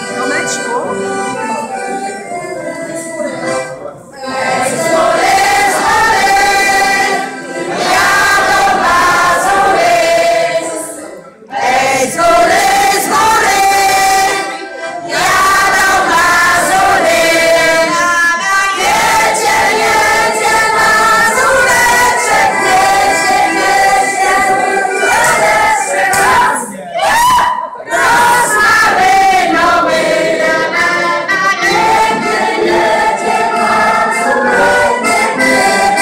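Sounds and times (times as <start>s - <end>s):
women singing folk song together: 4.2s - 36.0s.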